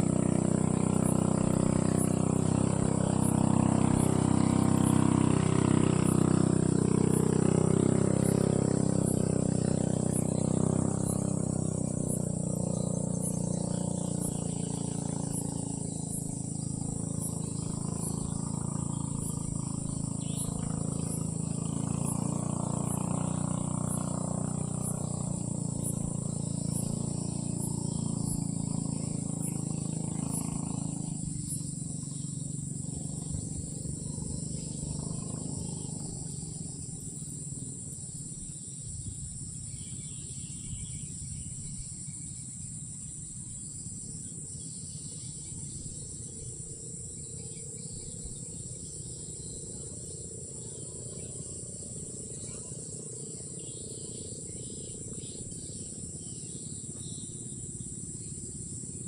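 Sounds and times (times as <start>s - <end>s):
crickets droning: 0.0s - 59.0s.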